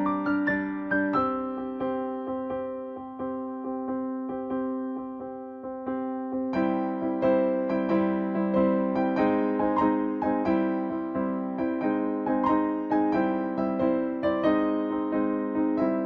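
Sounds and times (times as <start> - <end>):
electric piano chords: 0.0 - 16.0.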